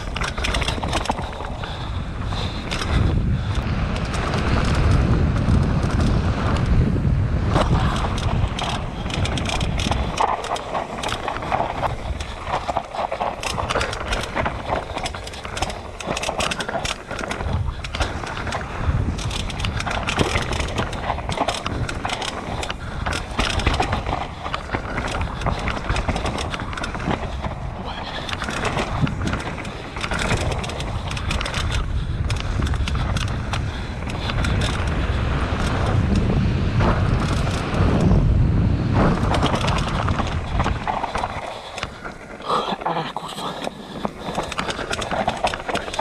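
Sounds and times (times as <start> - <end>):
bike clicks and knocks: 0.0 - 46.0
tyres rumbling over dirt and rocks: 0.0 - 46.0.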